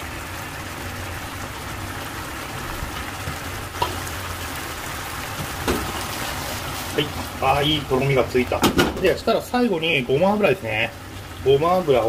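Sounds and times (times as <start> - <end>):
sauce bubbling in a frying pan: 0.0 - 12.0.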